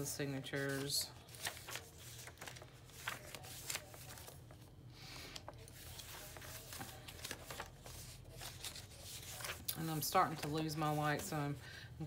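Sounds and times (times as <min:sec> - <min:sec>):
paper pages rustling: 0:00.4 - 0:04.7, 0:05.3 - 0:11.4.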